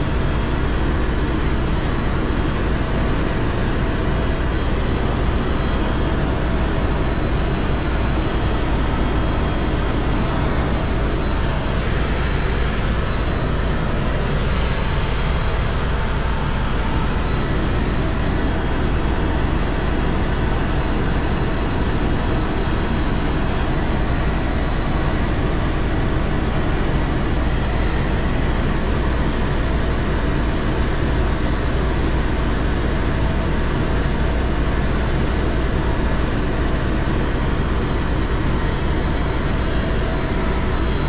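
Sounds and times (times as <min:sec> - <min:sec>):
vehicle engine and wind noise: 0:00.0 - 0:41.0.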